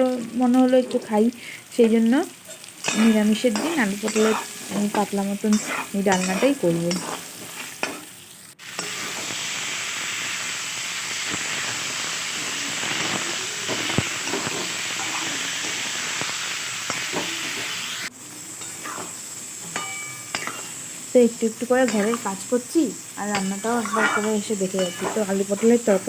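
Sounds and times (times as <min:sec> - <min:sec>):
oil sizzling in a pan: 0:00.0 - 0:26.0.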